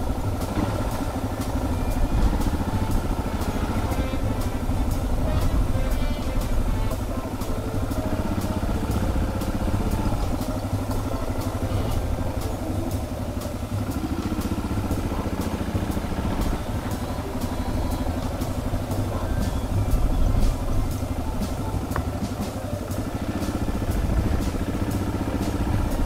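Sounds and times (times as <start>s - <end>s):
motorcycle engine running at low revs: 0.0s - 26.0s.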